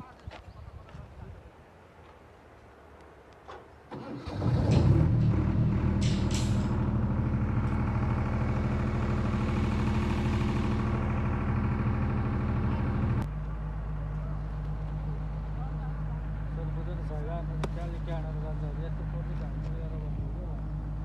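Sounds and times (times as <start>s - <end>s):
engine running: 3.9s - 21.0s.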